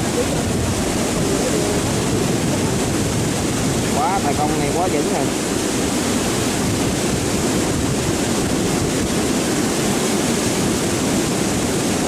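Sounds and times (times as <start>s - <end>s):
water rushing through dam gates: 0.0s - 12.0s.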